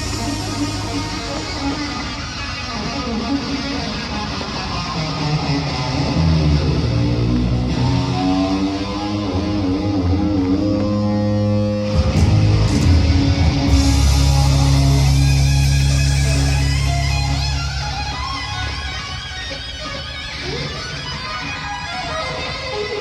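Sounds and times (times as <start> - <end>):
guitar-led rock music: 0.0 - 23.0.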